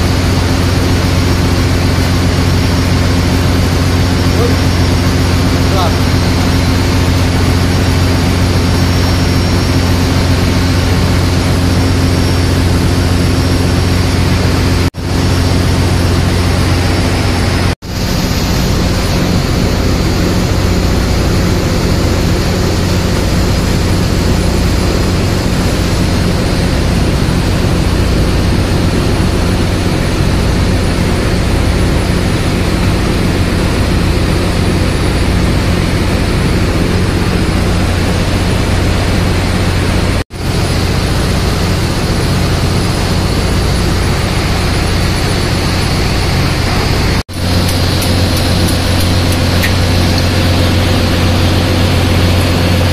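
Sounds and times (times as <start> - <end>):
ship engine-room machinery drone: 0.0 - 52.9.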